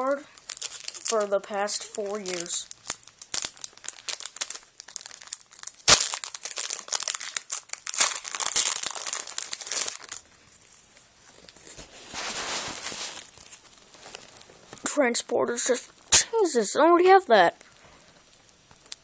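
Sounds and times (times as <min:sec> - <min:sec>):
foil wrapper crinkling and tearing: 0:00.1 - 0:14.8, 0:17.6 - 0:19.0.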